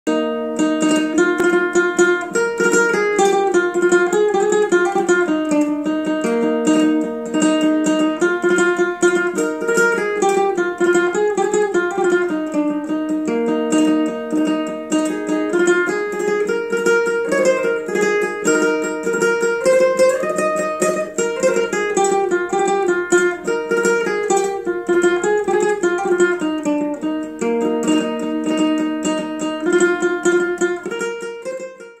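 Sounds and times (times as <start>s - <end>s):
plucked string instrument melody: 0.0s - 32.0s.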